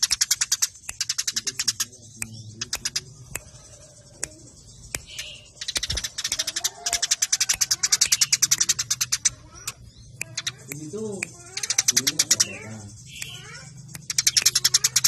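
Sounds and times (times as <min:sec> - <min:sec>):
sparrows chirping rapidly: 0:00.0 - 0:15.0.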